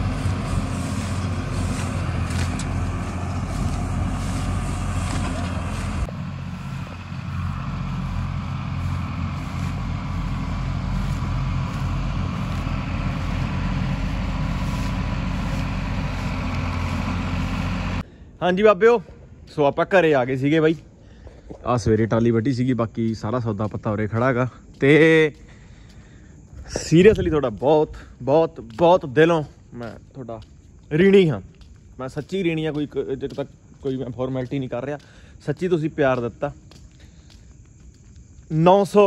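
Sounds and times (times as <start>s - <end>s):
tractor diesel engines running: 0.0s - 18.3s, 22.5s - 39.0s.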